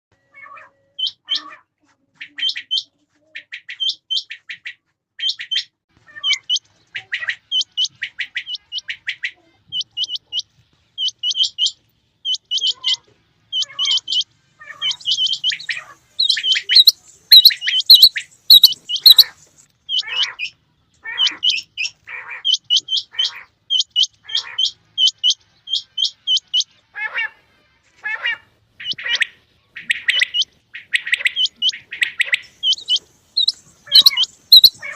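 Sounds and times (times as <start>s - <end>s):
quails calling: 2.2s - 27.4s, 28.0s - 34.9s.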